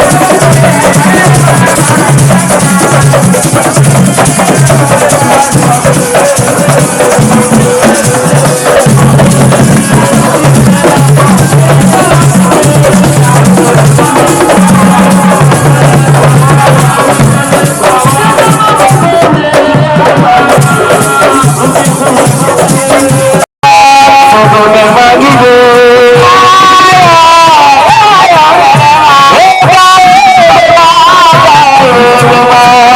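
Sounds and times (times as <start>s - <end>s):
loud music with drums and bass: 0.0s - 32.9s.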